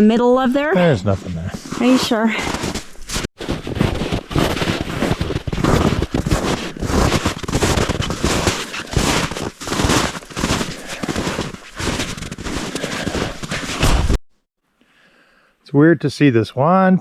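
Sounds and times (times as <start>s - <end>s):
footsteps crunching through snow: 0.6s - 14.2s.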